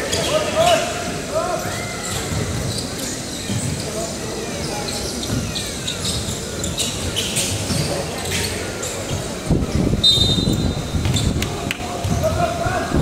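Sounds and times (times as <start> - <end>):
sneakers squeaking: 0.0 - 0.9, 1.6 - 13.0
players and spectators voices: 0.0 - 13.0.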